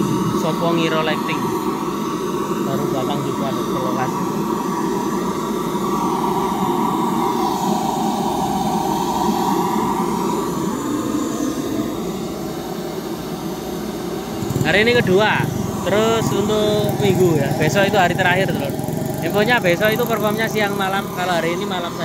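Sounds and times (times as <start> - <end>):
sound system test noise: 0.0 - 22.0.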